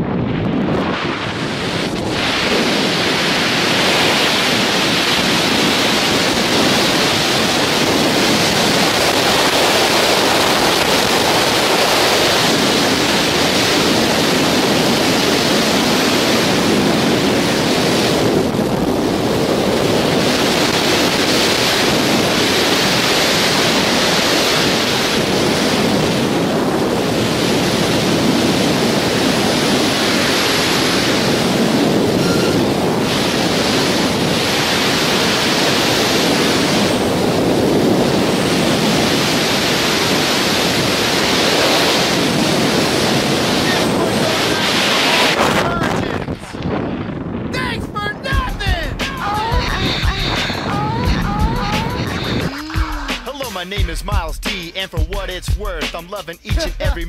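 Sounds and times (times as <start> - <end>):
wind rushing over microphone: 0.0 - 53.2.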